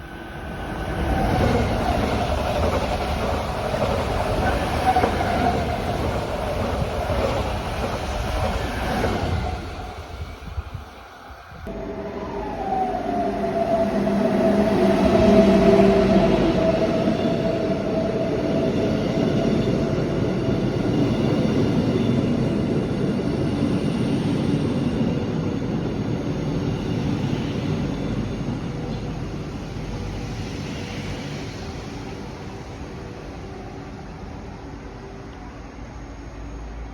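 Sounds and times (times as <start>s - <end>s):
electric train passing: 0.0s - 36.9s.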